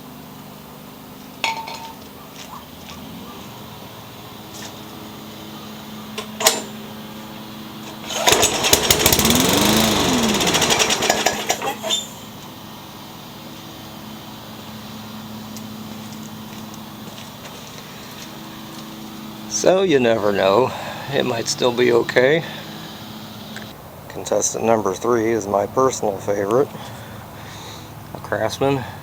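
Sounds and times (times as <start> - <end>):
lawn mower engine sputtering: 1.4 - 29.0.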